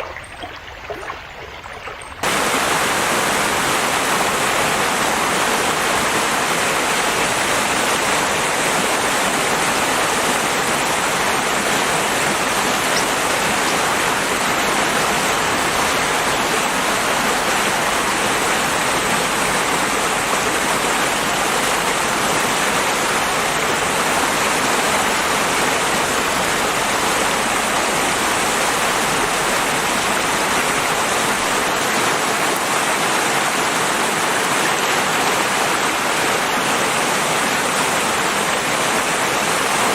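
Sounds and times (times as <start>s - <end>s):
river water rushing: 2.2s - 39.9s.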